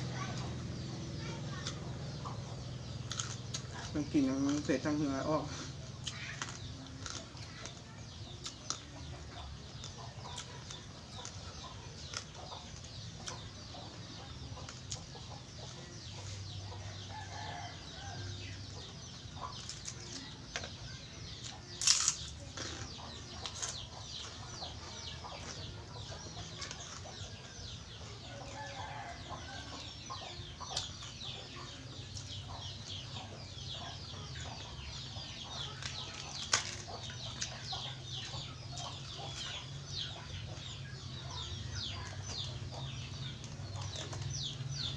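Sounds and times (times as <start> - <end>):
chewing and crunching: 0.0 - 44.9.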